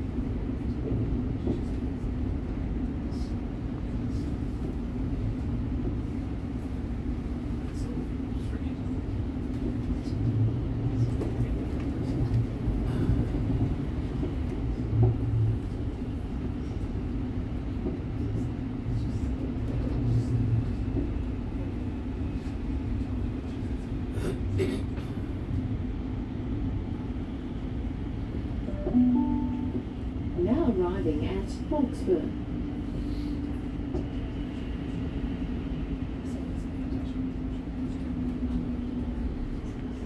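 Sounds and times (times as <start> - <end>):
train wheels rumbling on rail: 0.0 - 29.0, 29.6 - 40.0.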